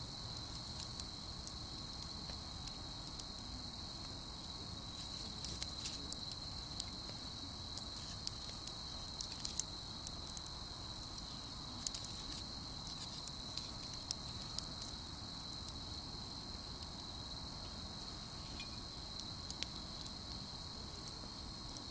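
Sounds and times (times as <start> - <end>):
campfire crackling and popping: 0.0 - 21.9
night insects chirring: 0.0 - 21.9.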